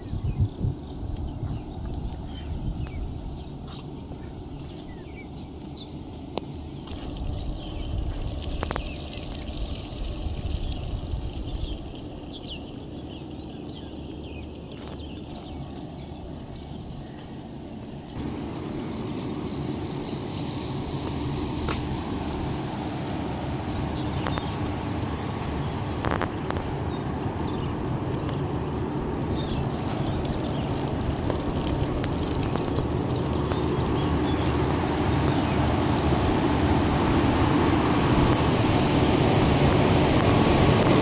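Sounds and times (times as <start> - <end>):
high insect drone: 0.0 - 41.0
low rumbling noise: 0.0 - 41.0.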